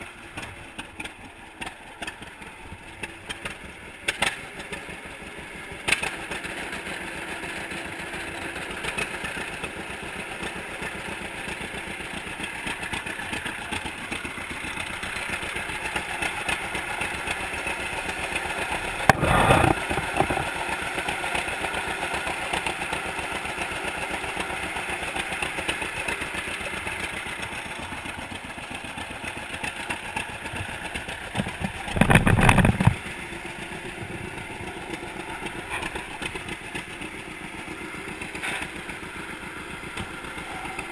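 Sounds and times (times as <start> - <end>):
tractor engine popping: 0.0 - 40.9.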